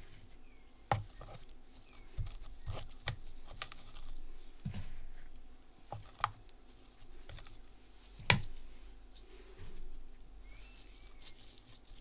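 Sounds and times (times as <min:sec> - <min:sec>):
soft rustle of mixture: 0:00.0 - 0:12.0.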